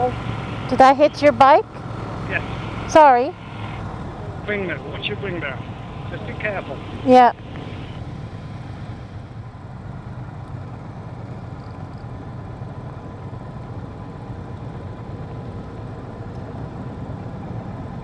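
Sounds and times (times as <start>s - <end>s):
motorcycle engine idling: 0.0s - 16.6s.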